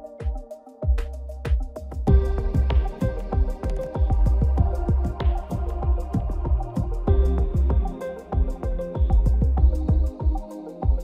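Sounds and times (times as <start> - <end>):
electronic music with beat and bass: 0.0 - 11.0.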